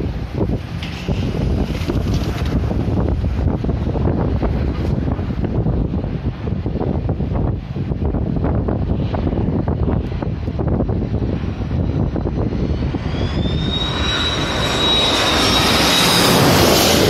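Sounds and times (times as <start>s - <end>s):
airliner engine whine: 0.0s - 17.0s
wind buffeting microphone: 0.0s - 17.0s.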